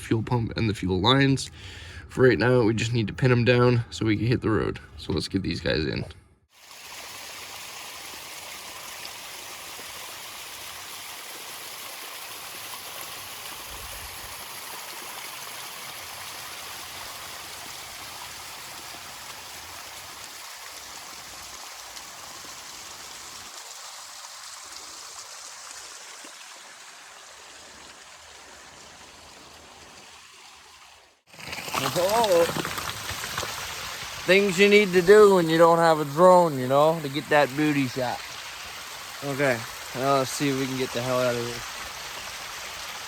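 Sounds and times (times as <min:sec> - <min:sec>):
rushing stream: 0:06.6 - 0:43.0.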